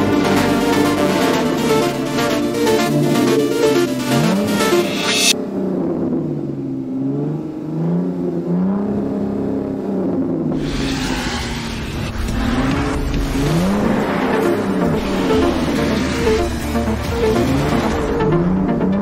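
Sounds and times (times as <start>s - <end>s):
car engine revving: 0.0s - 19.0s
road noise: 0.0s - 19.0s.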